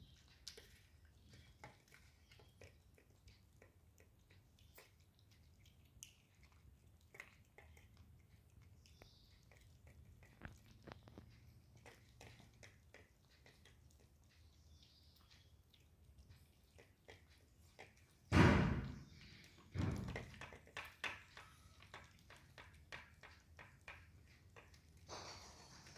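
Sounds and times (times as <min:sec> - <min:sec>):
kittens chewing and lapping: 0:00.0 - 0:25.9.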